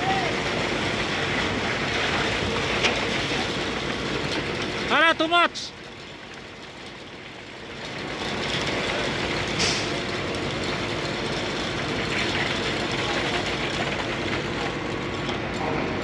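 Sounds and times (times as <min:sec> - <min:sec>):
concrete pump truck running: 0:00.0 - 0:16.0.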